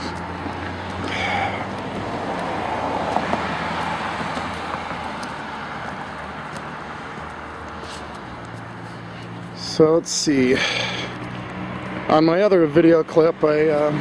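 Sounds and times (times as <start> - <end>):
car passing by: 0.0 - 14.0.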